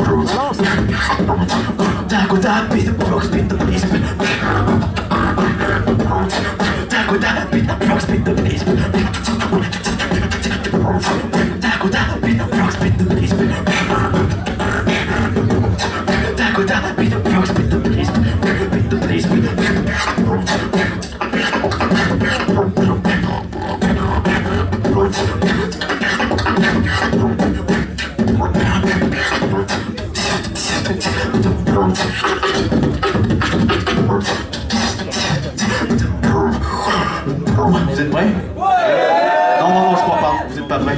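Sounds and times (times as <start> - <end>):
beatbox vocal drum hits: 0.0 - 38.5
deep vocal bass line: 0.0 - 38.6.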